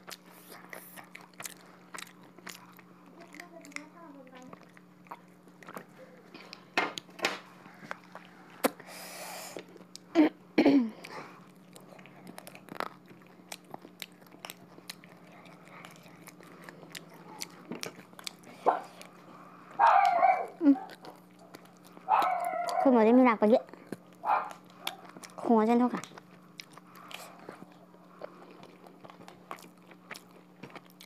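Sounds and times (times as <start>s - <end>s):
chewing and mouth clicks: 0.0s - 8.8s, 9.6s - 10.1s, 11.0s - 31.0s.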